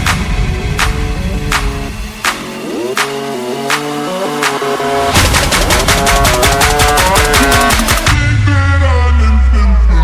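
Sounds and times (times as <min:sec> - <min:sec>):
electronic music with steady beat: 0:00.0 - 0:09.3
heavy bass: 0:00.0 - 0:10.0.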